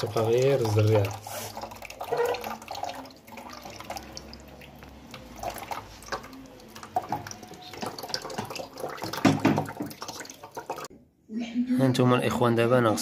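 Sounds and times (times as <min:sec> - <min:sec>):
water dripping and splashing: 0:00.0 - 0:10.9
tap running water: 0:00.0 - 0:11.0.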